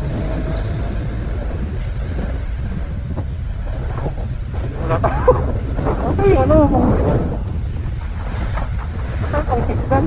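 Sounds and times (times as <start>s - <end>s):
gliding pitched sounds: 0.0s - 10.0s
road noise in traffic: 0.0s - 10.0s
wind rumble on microphone: 0.0s - 10.0s.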